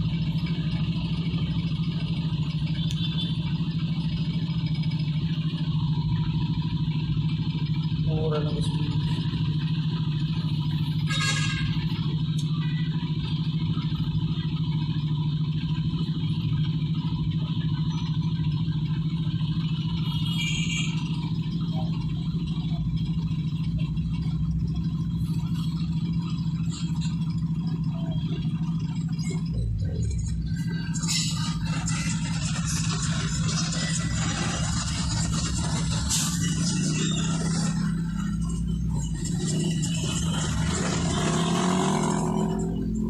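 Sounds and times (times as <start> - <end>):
vehicle engine droning: 0.0 - 43.0.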